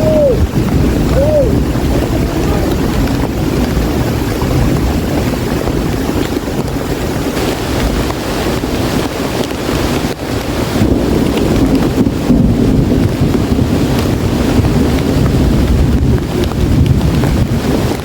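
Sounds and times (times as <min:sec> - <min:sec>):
heavy rain: 0:00.0 - 0:18.0
wind buffeting microphone: 0:00.0 - 0:18.0.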